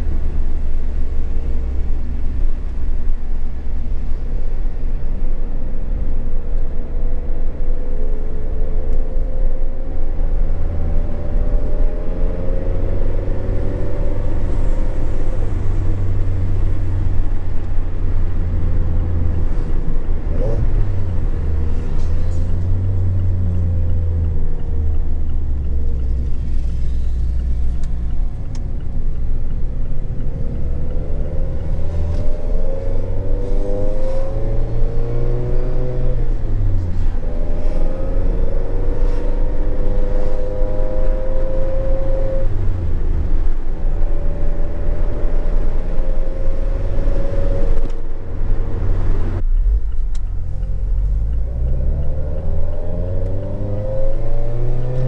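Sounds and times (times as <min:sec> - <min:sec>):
car engine accelerating through gears: 0:05.5 - 0:55.0.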